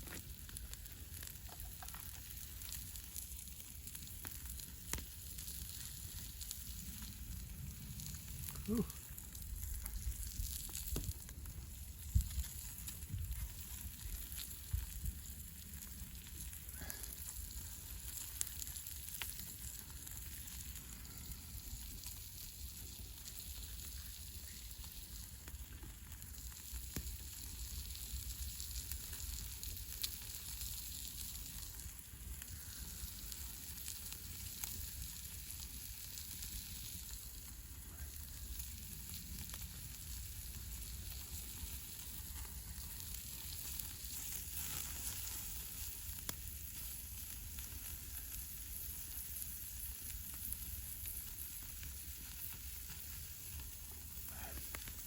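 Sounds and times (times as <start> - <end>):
fire crackles and pops: 0.0 - 55.0
meat sizzling over campfire: 0.0 - 55.0.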